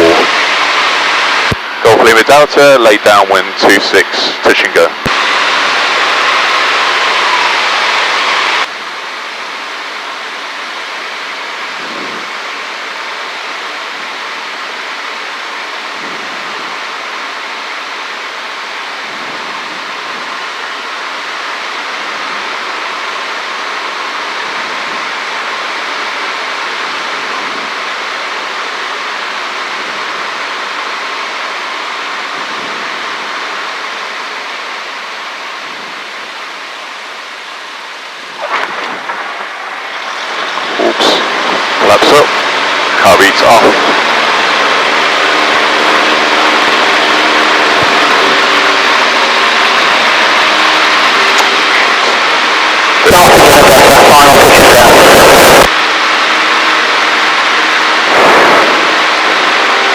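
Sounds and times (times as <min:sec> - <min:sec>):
airplane cabin engine hiss: 0:00.0 - 0:59.9.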